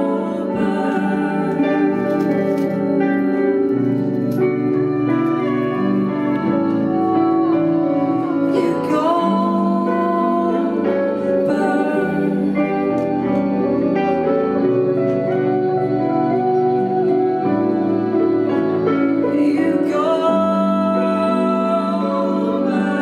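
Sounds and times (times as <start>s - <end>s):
live band playing slow song: 0.0s - 23.0s.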